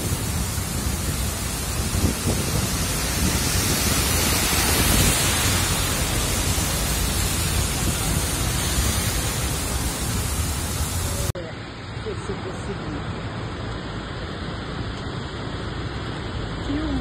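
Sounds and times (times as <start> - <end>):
heavy rain downpour: 0.0 - 17.0.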